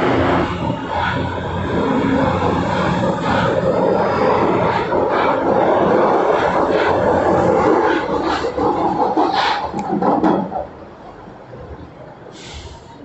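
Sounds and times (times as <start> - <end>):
train wheel clacks: 0.0 - 10.7
subway train rumble and motor whine: 0.0 - 13.0.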